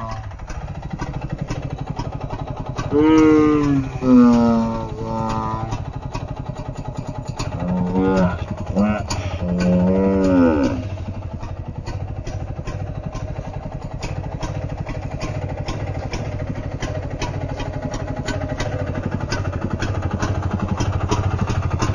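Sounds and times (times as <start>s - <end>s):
chainsaw engine idling: 0.0s - 21.9s.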